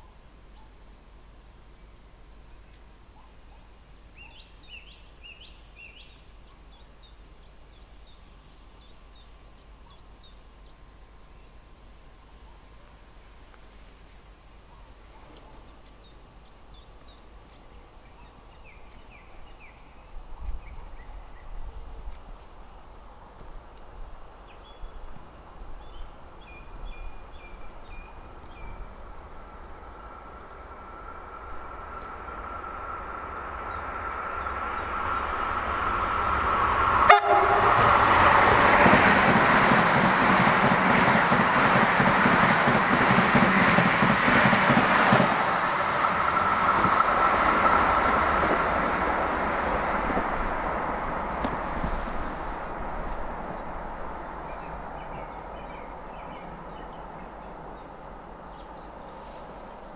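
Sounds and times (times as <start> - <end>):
electric train whine: 3.8 - 59.9.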